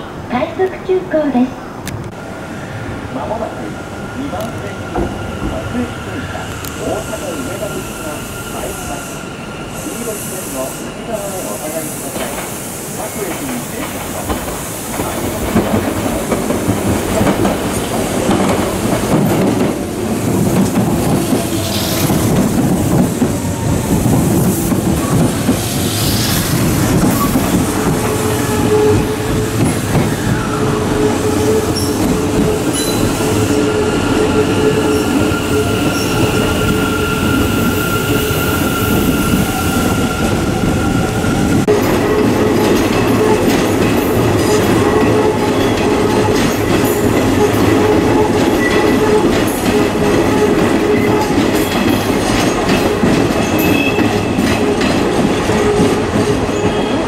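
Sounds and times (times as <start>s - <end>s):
train wheels clattering: 11.2s - 57.0s.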